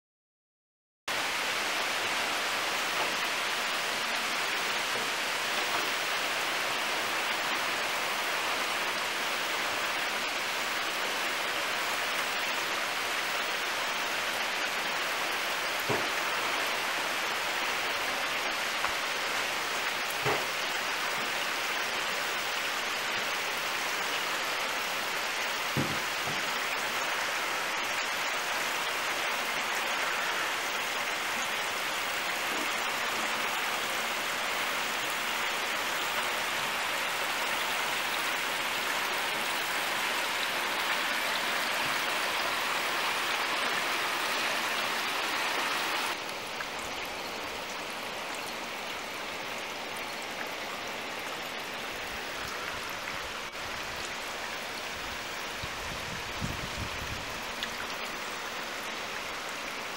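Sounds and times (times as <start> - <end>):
rain falling: 1.1 - 59.9.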